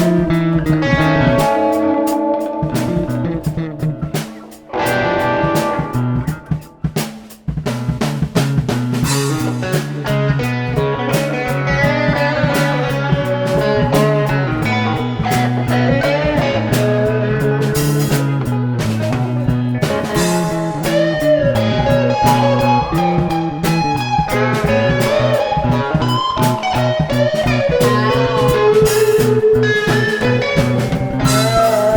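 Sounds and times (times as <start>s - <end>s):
bass guitar line: 0.0s - 31.9s
drum kit: 0.0s - 31.9s
electric guitar melody: 0.0s - 31.9s.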